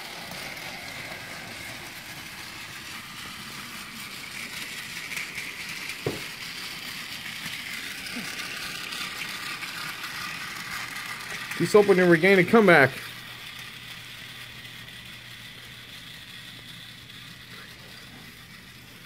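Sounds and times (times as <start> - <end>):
wheel rattle: 0.0 - 16.0
toy train motors whirring: 0.0 - 19.0.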